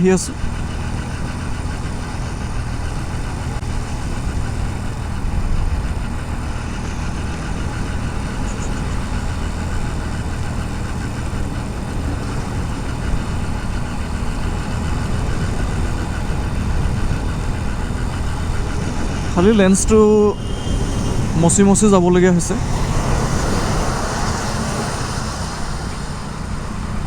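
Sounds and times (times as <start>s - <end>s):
motorcycle engine running: 0.0s - 27.0s
road noise: 0.0s - 27.0s
wind noise: 0.3s - 27.0s.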